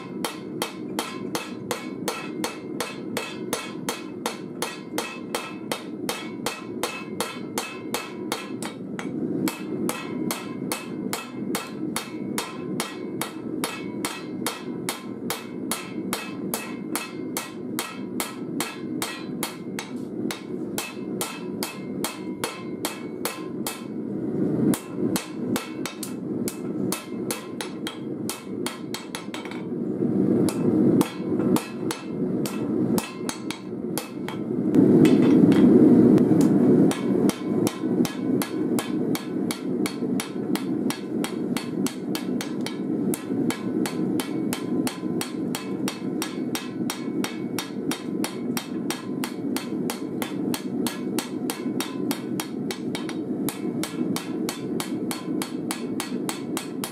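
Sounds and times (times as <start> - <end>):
hammer striking blade on anvil: 0.0 - 24.0, 24.7 - 29.7, 30.5 - 35.7, 36.4 - 56.9.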